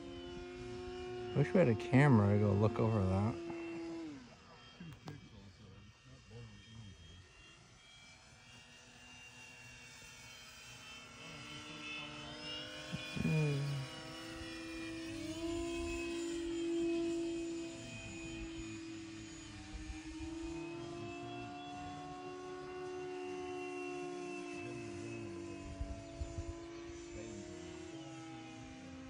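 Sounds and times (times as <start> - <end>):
model airplane motor whining: 0.0 - 29.0.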